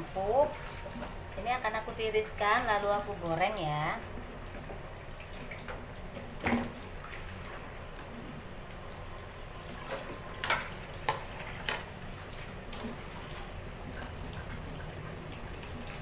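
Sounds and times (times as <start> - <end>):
liquid sloshing and dripping: 0.0 - 3.2, 4.0 - 16.0.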